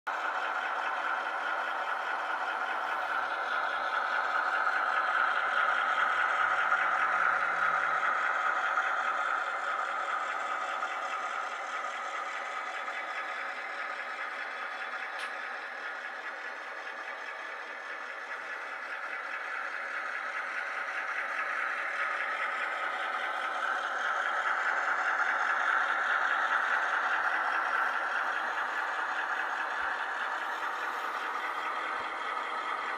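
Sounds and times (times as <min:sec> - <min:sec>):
model train whirring: 0:00.1 - 0:32.9.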